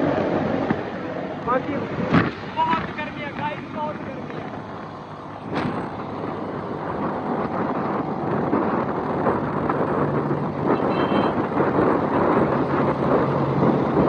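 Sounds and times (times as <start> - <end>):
motorcycle engine: 0.0 - 14.0
street traffic: 0.0 - 14.0
wind rushing over microphone: 0.0 - 14.0.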